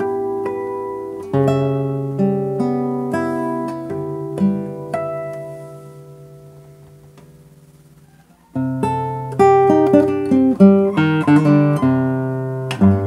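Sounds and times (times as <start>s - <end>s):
classical guitar fingerstyle: 0.0s - 13.0s.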